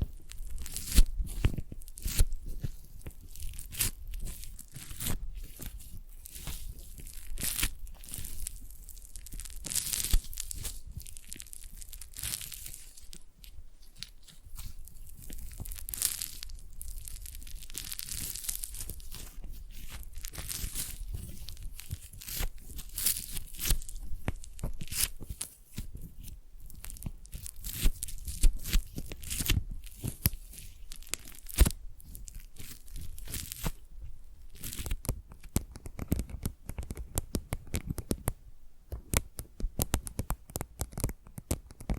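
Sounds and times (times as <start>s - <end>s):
foam clay crackling and tearing: 0.0s - 38.3s, 39.1s - 41.9s
fine clicks and scratches: 0.0s - 41.9s.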